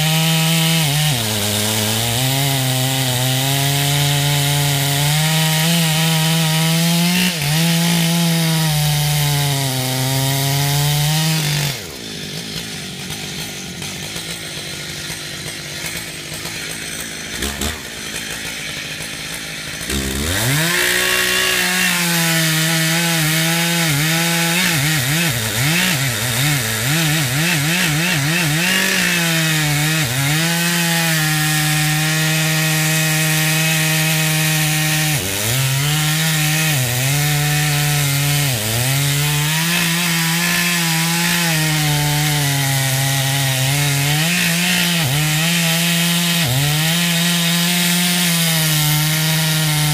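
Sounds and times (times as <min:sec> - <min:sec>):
chainsaw revving and idling: 0:00.0 - 0:49.9.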